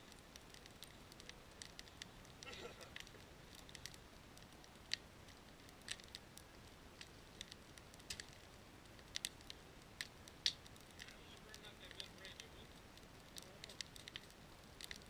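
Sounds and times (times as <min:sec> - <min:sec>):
wood fire crackling: 0:00.0 - 0:15.0
sharp pops: 0:00.1 - 0:15.0.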